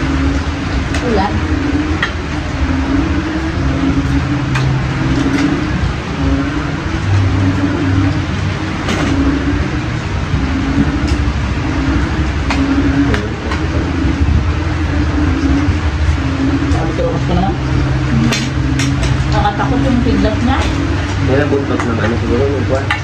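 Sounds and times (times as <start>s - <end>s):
pulsing mechanical rumble: 0.0s - 23.0s.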